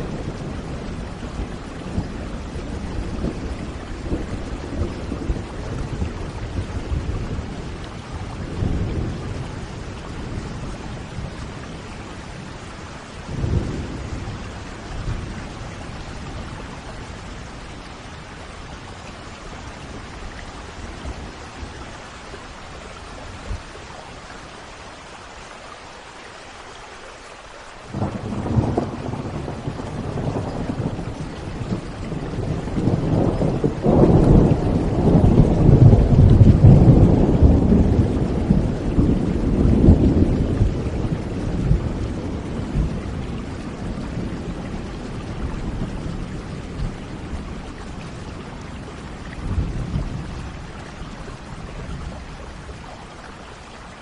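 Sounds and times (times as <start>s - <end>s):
rolling thunder rumbling: 0.0s - 22.0s, 27.9s - 52.9s
steady rain: 0.0s - 54.0s.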